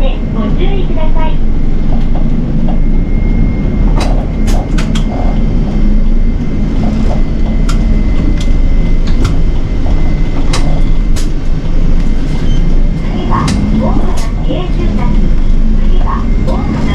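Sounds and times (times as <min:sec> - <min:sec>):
bus engine and road rumble: 0:00.0 - 0:16.9.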